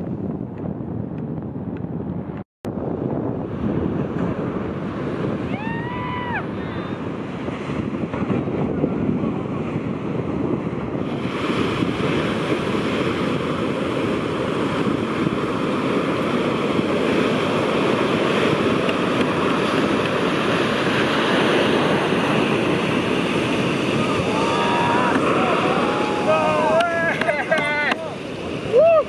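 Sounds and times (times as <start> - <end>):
wind on microphone: 0.0 - 29.0
waves breaking on beach: 3.5 - 29.0.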